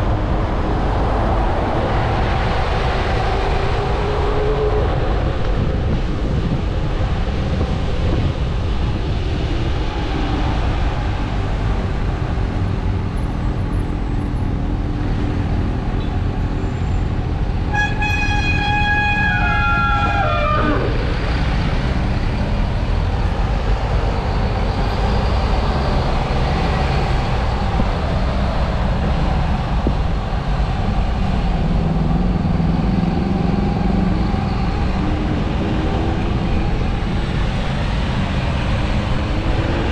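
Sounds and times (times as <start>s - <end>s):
passing traffic: 0.0s - 39.9s
road noise: 0.0s - 39.9s
wind rush on microphone: 0.0s - 39.9s.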